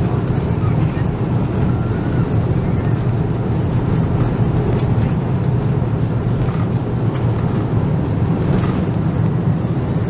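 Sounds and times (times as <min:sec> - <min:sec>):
airliner engines droning: 0:00.0 - 0:10.0.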